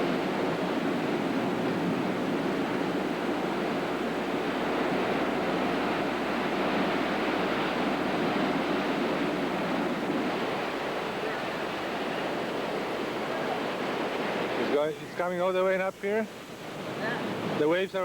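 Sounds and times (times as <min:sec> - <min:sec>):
wind buffeting microphone: 0:00.0 - 0:14.8
rushing storm surf: 0:00.0 - 0:18.0.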